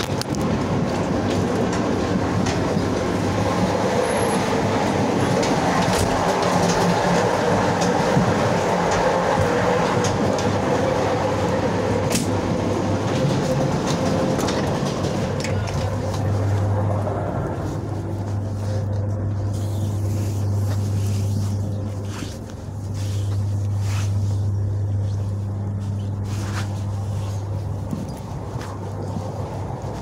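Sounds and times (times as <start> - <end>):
train wheels rumbling and rattling: 0.0 - 30.0
steady low hum: 4.6 - 30.0.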